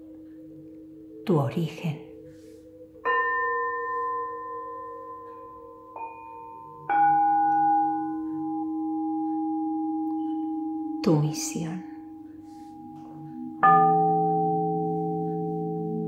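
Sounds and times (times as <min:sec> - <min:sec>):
struck bell-like tones: 0:03.0 - 0:16.0.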